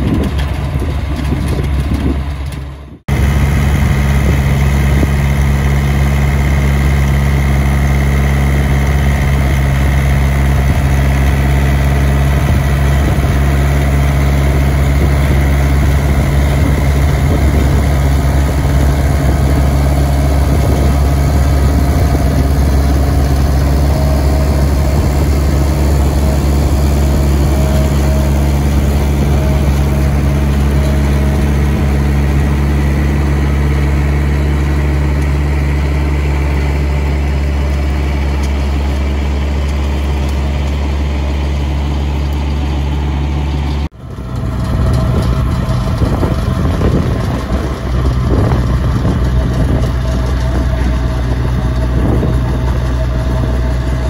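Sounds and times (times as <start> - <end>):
rotor churning soil: 0.0 - 54.0
tractor diesel engine under load: 0.0 - 54.0.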